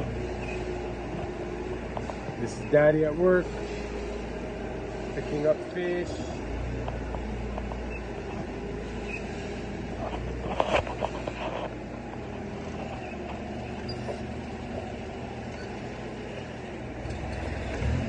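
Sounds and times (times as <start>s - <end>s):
forklift running hum: 0.0s - 18.0s.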